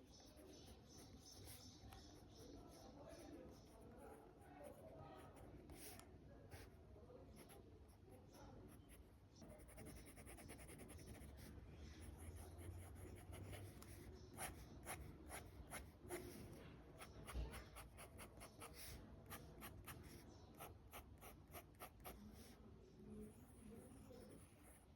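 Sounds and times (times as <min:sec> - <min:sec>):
fountain pen scratching on paper: 0:00.1 - 0:04.0, 0:04.7 - 0:07.6, 0:08.7 - 0:22.6, 0:23.2 - 0:24.9.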